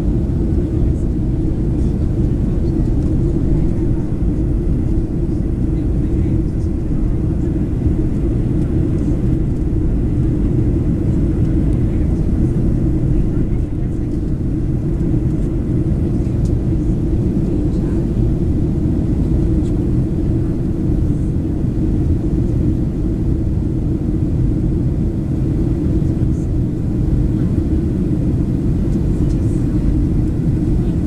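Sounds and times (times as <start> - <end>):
airflow over fuselage: 0.0 - 31.0
jet engines rumbling: 0.0 - 31.0.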